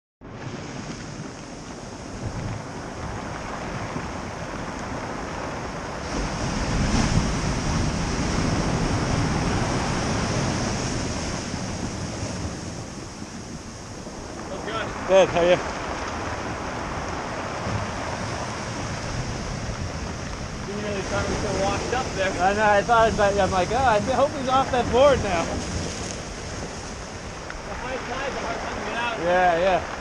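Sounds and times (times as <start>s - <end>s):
wind buffeting microphone: 0.2s - 30.0s
surf breaking: 0.3s - 30.0s.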